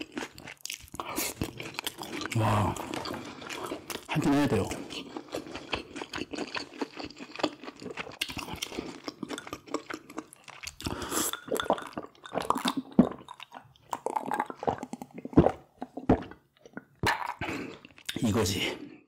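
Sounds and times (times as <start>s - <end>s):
wet chewing: 0.0s - 18.2s.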